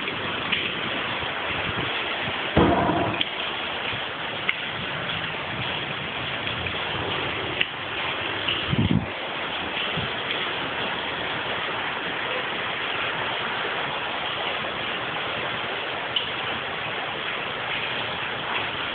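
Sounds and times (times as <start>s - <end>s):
heavy rain and hail: 0.0s - 18.9s.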